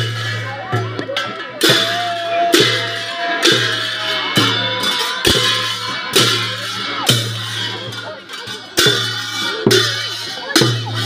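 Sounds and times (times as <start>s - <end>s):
drum beat with low boom: 0.0s - 11.0s.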